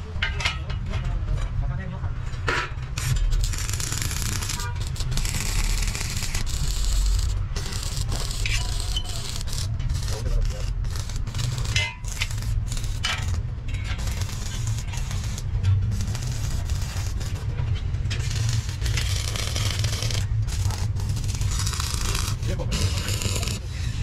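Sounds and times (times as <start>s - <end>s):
workshop hum and hiss: 0.0s - 24.0s
metal brackets clinking and scraping: 2.3s - 23.6s.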